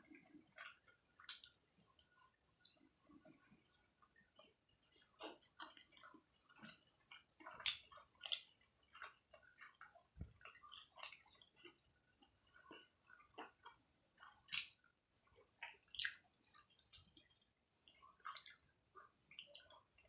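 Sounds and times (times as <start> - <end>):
small clicks and slurps: 0.0 - 20.0
wet chewing and lip smacking: 0.1 - 14.8, 15.4 - 19.9.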